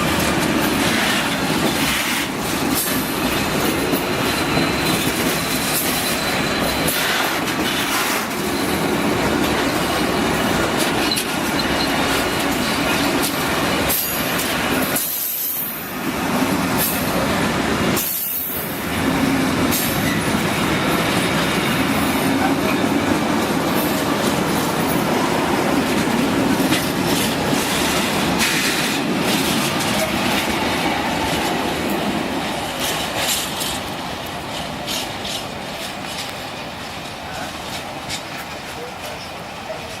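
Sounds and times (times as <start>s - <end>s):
train wheel squeal: 0.0s - 32.0s
train rumbling on rails: 0.0s - 40.0s.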